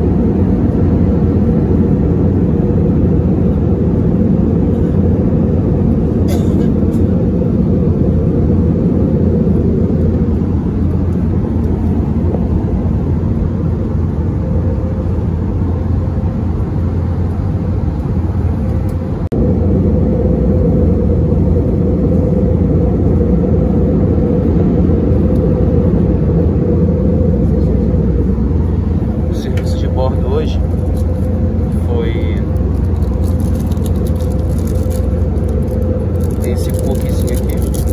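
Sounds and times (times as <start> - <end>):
airplane cabin rumble in flight: 0.0 - 37.9.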